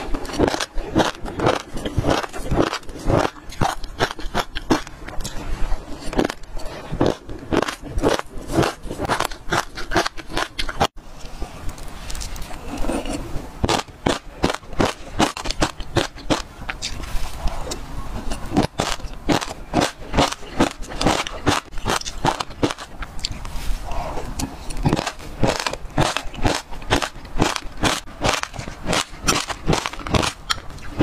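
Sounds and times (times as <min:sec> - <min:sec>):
crunching of seeds being chewed: 0:00.0 - 0:31.0.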